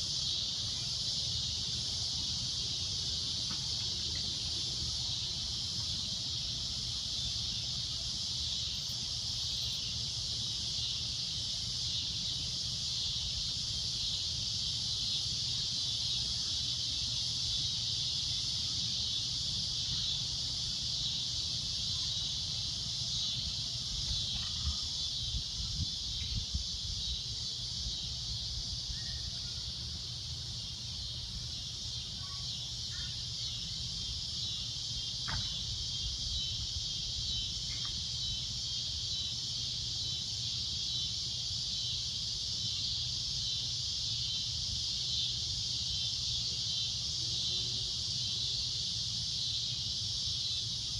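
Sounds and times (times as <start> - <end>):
cicadas droning: 0.0 - 50.9.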